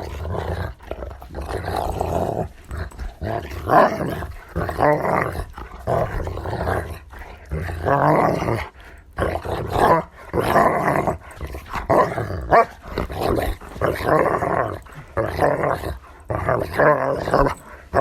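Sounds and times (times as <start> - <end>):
dogs growling: 0.0 - 18.0.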